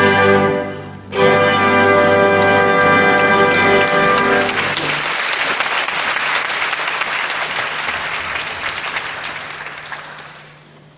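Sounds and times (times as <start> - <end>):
audience applauding: 1.9 - 10.8.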